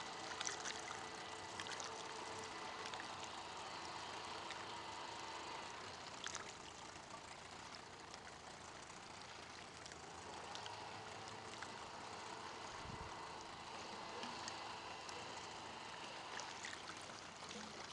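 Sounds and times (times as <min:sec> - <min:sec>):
outboard motor idling: 0:00.0 - 0:17.9.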